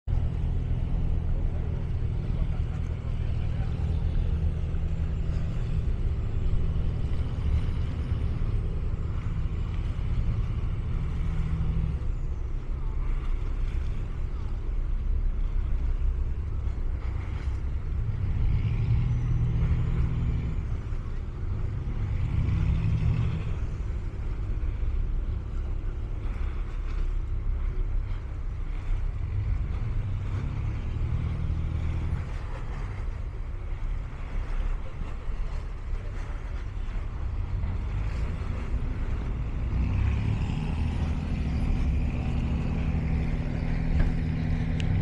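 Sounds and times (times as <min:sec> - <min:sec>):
large engine humming: 0:00.0 - 0:45.0.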